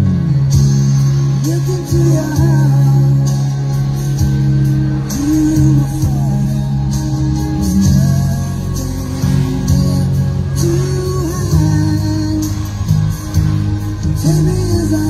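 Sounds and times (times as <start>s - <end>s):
guitar accompaniment: 0.0s - 15.0s
person singing: 1.3s - 15.0s.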